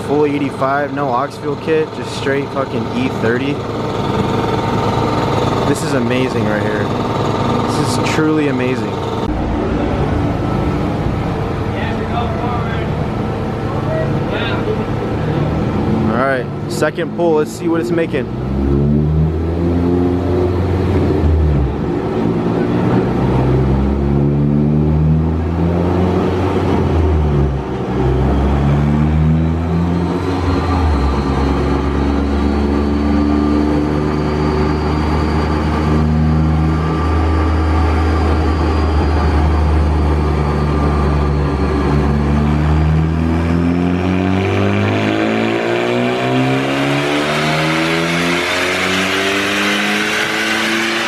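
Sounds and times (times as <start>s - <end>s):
car engine revving under load: 0.0s - 51.0s
turbo whine rising: 0.0s - 51.0s.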